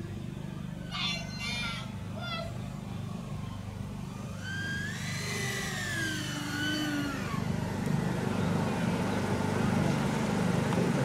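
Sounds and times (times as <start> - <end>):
electric ducted fans whining: 0.0 - 11.0.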